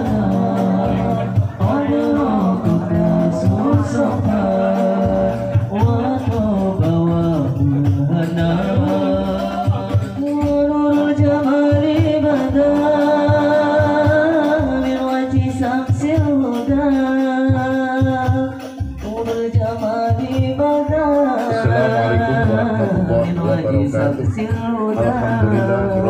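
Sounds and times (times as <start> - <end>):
hand drum beats: 0.0 - 26.0
person singing slow melody: 0.0 - 26.0.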